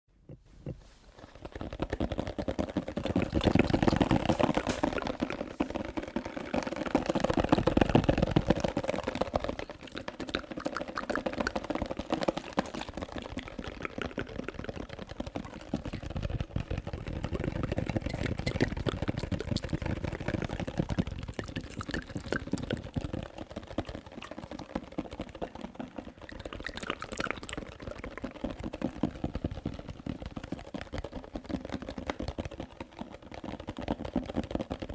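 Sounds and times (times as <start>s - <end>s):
wet mouth sounds: 0.1s - 29.8s.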